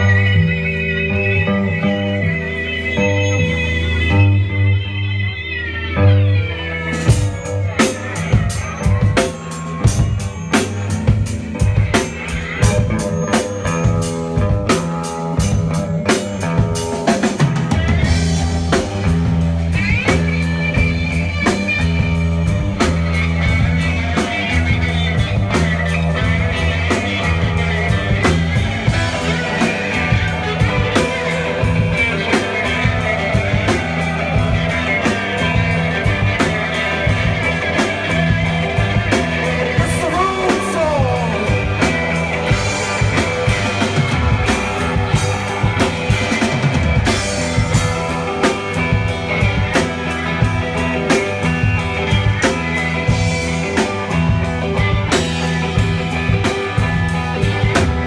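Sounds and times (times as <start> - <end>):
bass: 0.0 - 58.0
electric guitars: 0.0 - 58.0
drum kit beat: 6.9 - 58.0.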